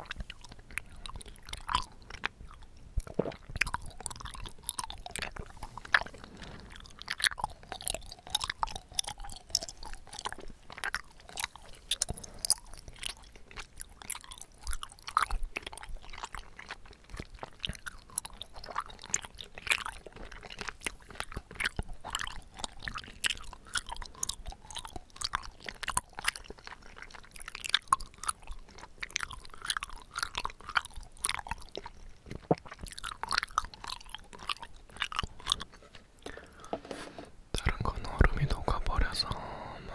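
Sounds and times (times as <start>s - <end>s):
chewing tapioca pearls: 0.0s - 36.8s, 37.5s - 39.9s.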